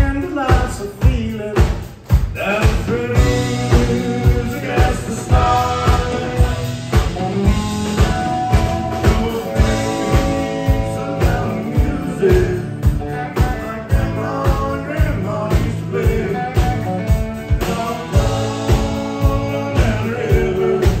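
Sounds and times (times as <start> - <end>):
country-rock band playing: 0.0 - 21.0
drum kit steady beat: 0.0 - 21.0.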